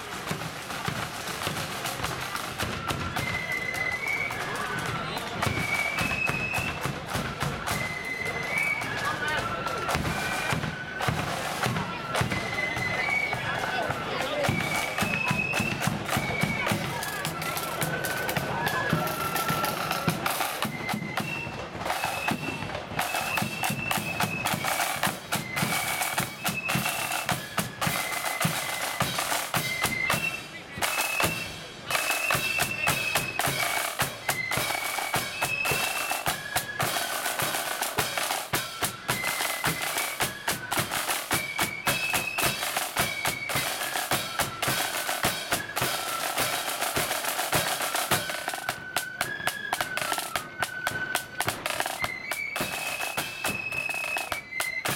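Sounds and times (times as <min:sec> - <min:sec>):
rapid snare drumming: 0:00.0 - 0:03.9, 0:09.4 - 0:54.9
high flute melody: 0:00.0 - 0:54.9.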